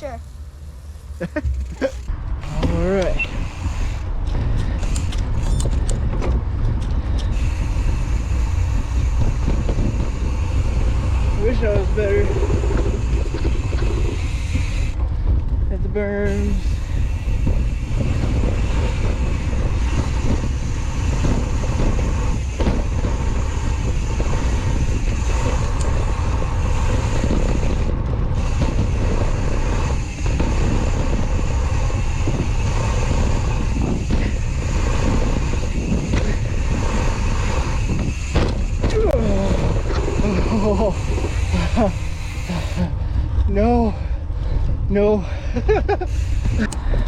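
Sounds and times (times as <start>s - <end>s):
tyres rolling on dirt: 0.0s - 44.9s
bike jolting over bumps: 0.0s - 47.0s
wind rumbling on microphone: 0.0s - 47.0s.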